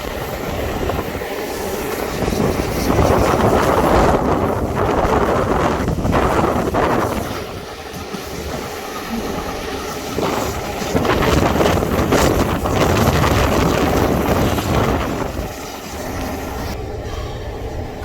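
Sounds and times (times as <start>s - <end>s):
steam train running: 0.0s - 18.0s
wind buffeting microphone: 0.0s - 18.0s.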